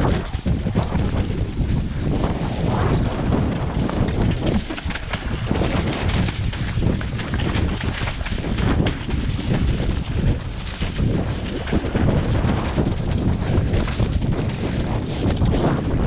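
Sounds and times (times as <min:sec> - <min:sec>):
knocks and rattles: 0:00.0 - 0:16.0
wind buffeting microphone: 0:00.0 - 0:16.0.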